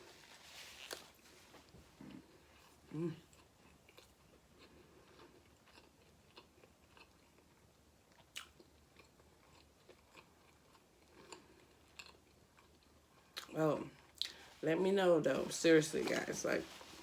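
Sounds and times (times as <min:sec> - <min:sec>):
person chewing food: 0:00.6 - 0:14.6.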